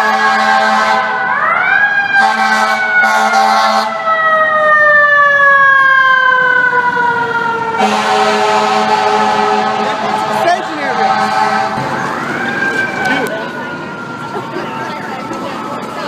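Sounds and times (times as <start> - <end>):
fire engine siren wailing: 0.0 - 16.0.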